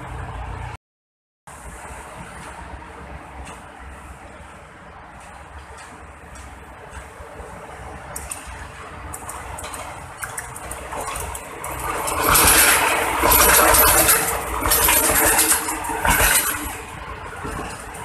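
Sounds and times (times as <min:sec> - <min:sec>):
train wheels clattering over rails: 0:01.7 - 0:18.0.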